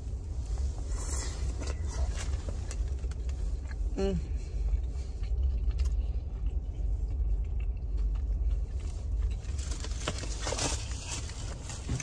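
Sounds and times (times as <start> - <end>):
car low rumble: 0.0 - 12.0.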